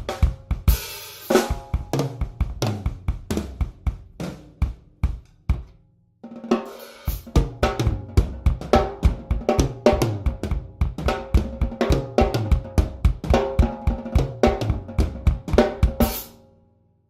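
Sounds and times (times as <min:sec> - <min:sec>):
acoustic drum kit playing: 0:00.0 - 0:16.4.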